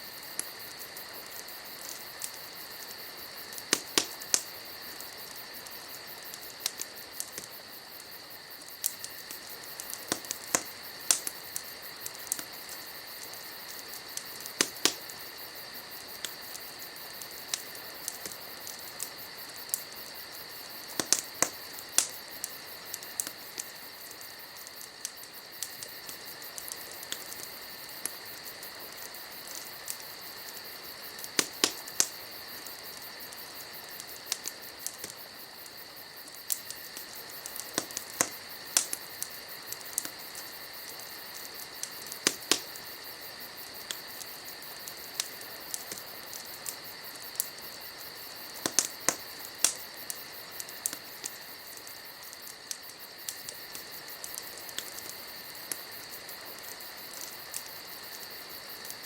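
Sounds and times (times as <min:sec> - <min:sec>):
crickets chirring: 0:00.0 - 0:59.0
wood fire crackling and popping: 0:00.0 - 0:59.0.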